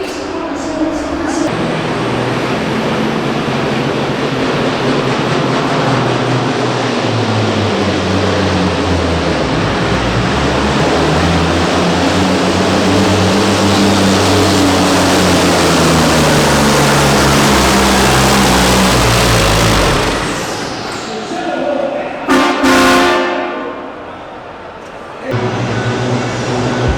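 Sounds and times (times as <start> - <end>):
diesel truck engine under load: 0.0 - 21.7
turbo and exhaust rushing: 0.0 - 21.7.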